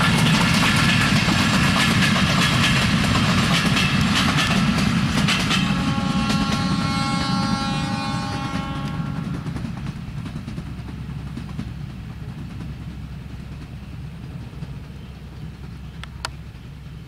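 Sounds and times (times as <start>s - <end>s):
distant train rumbling: 0.0s - 17.0s.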